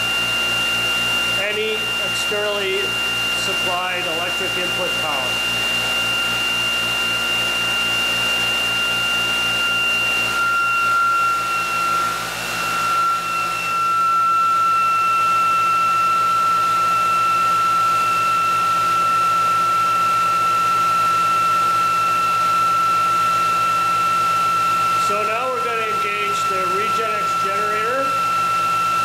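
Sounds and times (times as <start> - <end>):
electric motor whine: 0.0 - 29.0.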